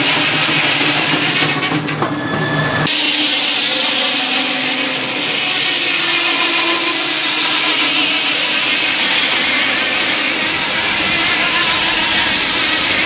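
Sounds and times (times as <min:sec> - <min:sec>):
sawmill mechanical whir: 0:02.2 - 0:13.0.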